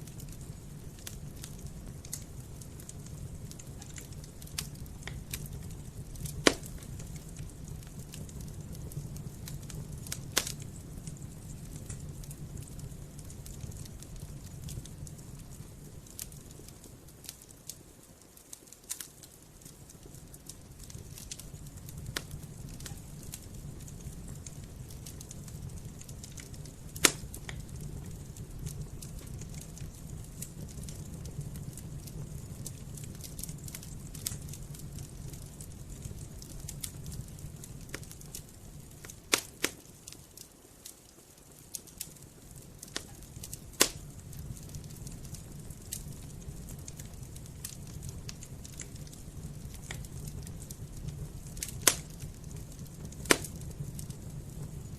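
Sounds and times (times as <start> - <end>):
campfire crackling: 0.0 - 54.9
fire popping: 0.0 - 54.9
low rumble of flames: 0.0 - 54.9.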